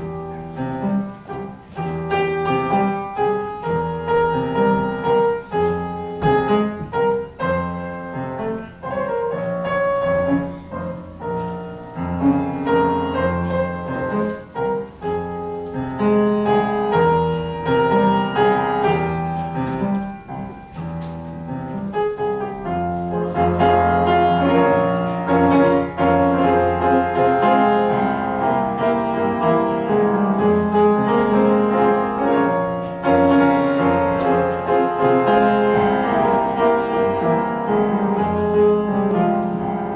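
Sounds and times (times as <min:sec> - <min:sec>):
slow piano music: 0:00.0 - 0:39.9.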